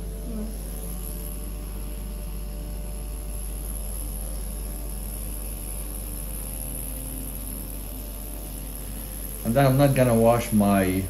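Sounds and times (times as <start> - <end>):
microneedling pen buzzing: 0.0 - 11.0.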